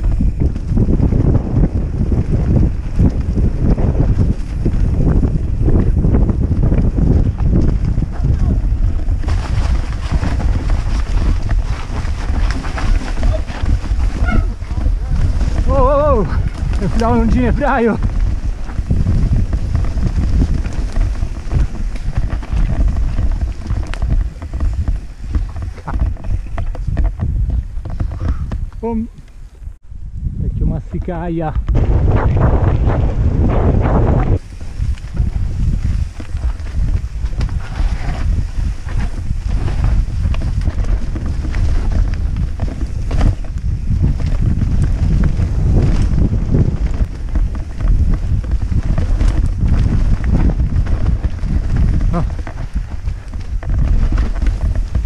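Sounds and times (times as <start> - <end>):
bike rumble and rattle: 0.0 - 55.0
wind buffeting microphone: 0.0 - 55.0.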